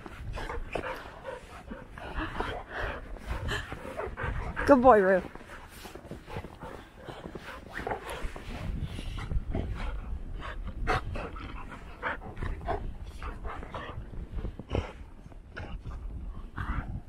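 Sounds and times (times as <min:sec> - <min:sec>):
dogs making vocal noises: 0:00.0 - 0:17.0
dogs panting: 0:00.0 - 0:17.0.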